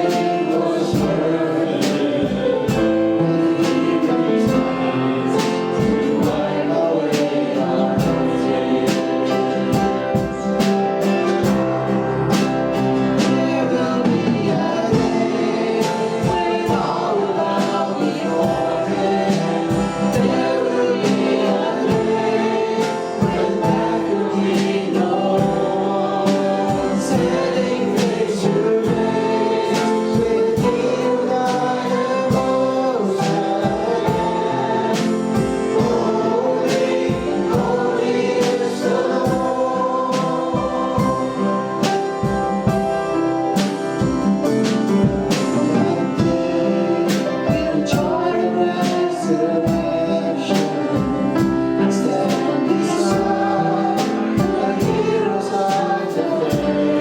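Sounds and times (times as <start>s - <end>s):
band instruments: 0.0s - 57.0s
group singing praise song: 0.0s - 57.0s
steady drum beat: 0.0s - 57.0s.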